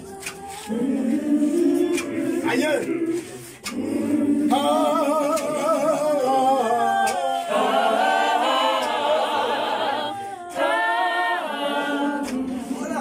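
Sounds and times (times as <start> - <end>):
unaccompanied choir singing: 0.0 - 13.0.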